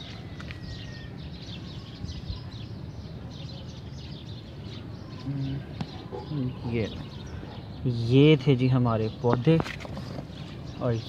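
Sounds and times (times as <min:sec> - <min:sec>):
low outdoor background hum: 0:00.0 - 0:11.0
small birds chirping: 0:00.0 - 0:11.0.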